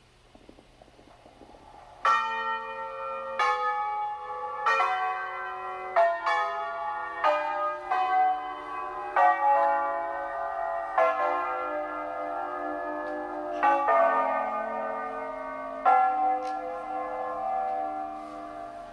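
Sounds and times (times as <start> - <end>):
tower bells ringing: 1.4 - 18.9.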